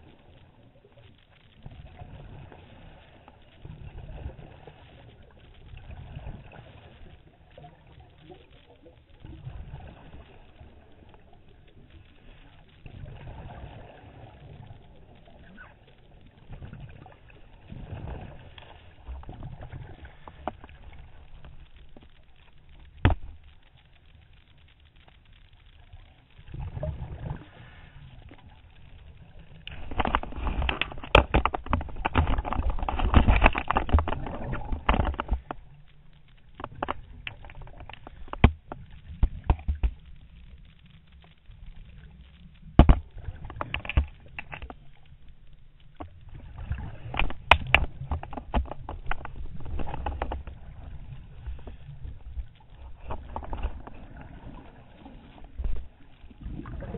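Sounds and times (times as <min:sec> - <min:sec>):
underwater regulator bubbles gurgling: 0:00.0 - 0:56.9.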